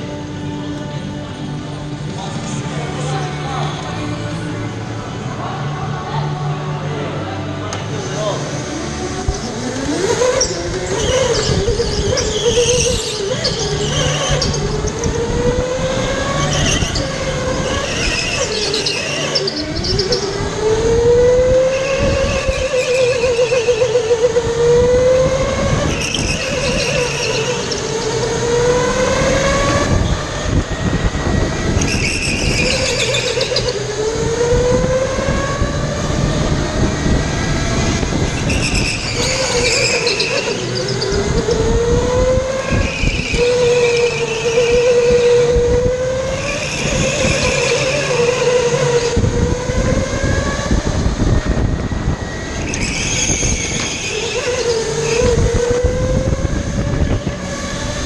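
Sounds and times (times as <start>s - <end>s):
go-kart motor whining: 0.0s - 58.0s.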